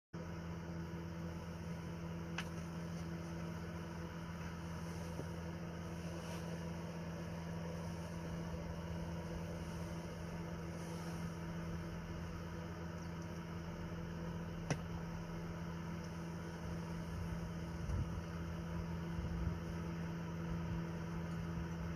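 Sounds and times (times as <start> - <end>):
low mechanical hum: 0.2 - 21.9.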